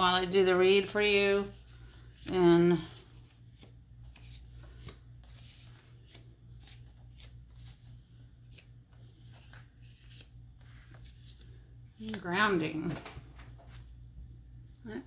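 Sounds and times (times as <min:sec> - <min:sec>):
paper cards rustling: 0:00.0 - 0:14.0
low steady hum: 0:00.0 - 0:15.0.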